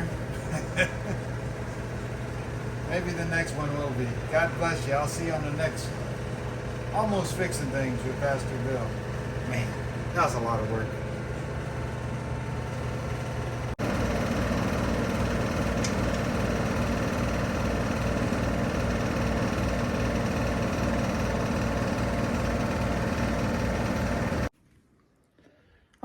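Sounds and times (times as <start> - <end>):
engine idling: 0.0 - 24.5.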